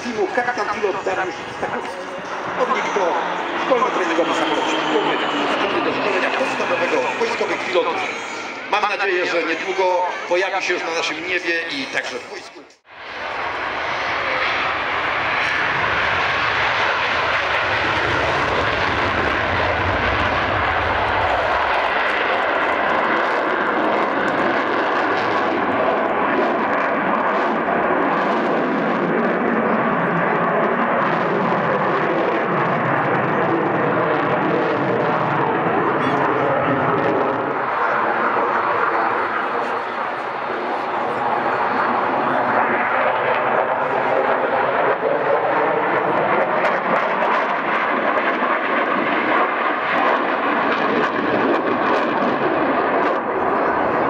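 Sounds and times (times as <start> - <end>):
jet engine roar overhead: 0.0 - 54.0.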